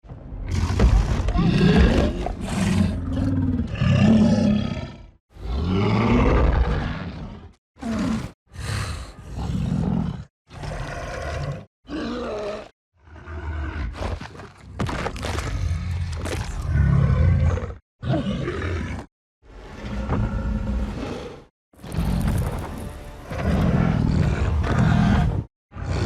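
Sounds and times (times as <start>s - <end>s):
creature roars and growls: 0.5s - 14.0s, 15.4s - 19.1s, 19.8s - 26.0s.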